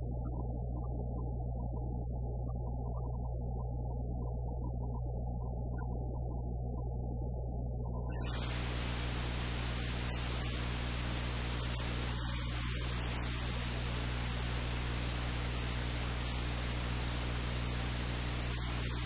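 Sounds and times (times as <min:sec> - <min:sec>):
low electrical hum: 0:00.0 - 0:19.0
static hiss: 0:00.0 - 0:19.0.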